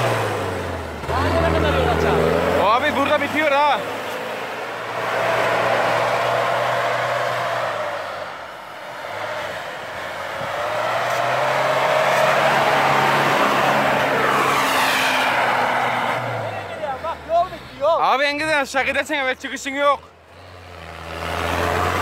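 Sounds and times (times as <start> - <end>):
diesel engine revving hard: 0.0 - 17.7, 20.2 - 22.0.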